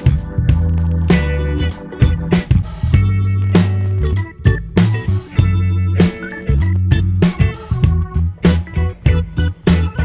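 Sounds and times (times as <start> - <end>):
instrumental music with bass: 0.0 - 10.0.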